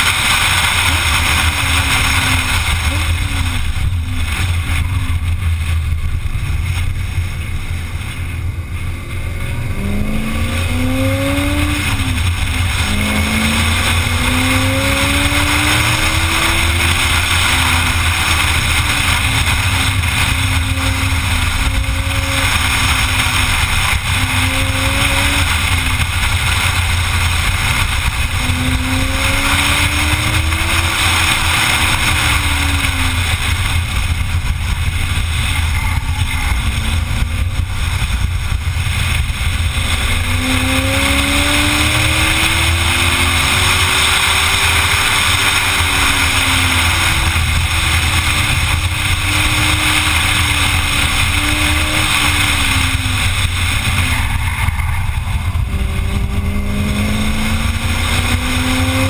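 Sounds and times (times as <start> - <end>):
car engine revving: 0.0 - 59.0
low rumble: 0.0 - 59.0
wind noise on microphone: 0.0 - 59.0.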